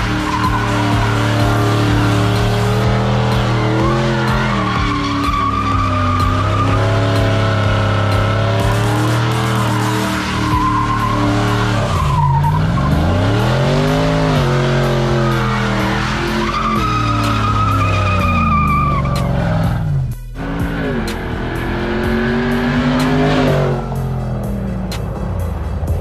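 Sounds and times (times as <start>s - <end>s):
tyres squealing on pavement: 0.0s - 24.2s
engine revving: 0.0s - 26.0s.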